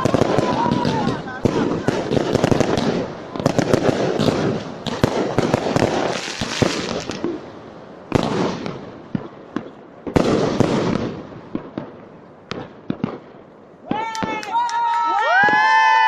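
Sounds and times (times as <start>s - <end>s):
loud firework bangs: 0.0s - 13.5s
fireworks bursting: 0.0s - 15.8s
fireworks crackling: 0.0s - 16.0s.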